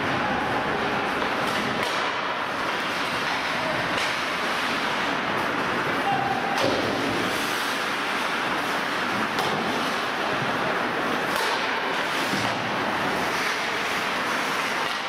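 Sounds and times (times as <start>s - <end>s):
ice hockey game noise: 0.0s - 15.0s
knocks of sticks puck and boards: 0.0s - 15.0s.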